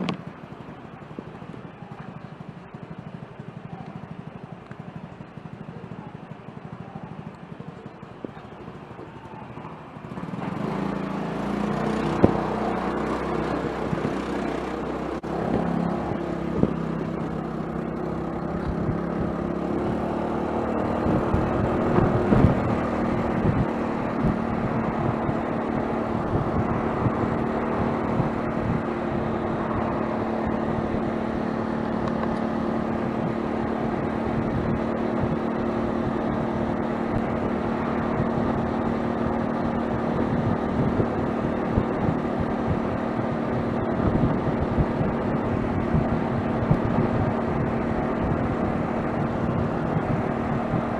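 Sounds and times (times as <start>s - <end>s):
road and wind noise: 0.0s - 50.9s
scooter engine accelerating: 0.0s - 50.9s.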